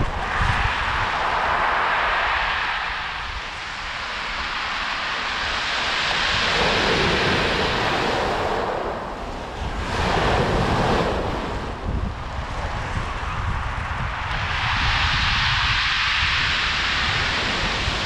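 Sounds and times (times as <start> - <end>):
wind rumbling on microphone: 0.0 - 18.0
waves breaking on pebble beach: 0.6 - 12.6, 14.7 - 18.0.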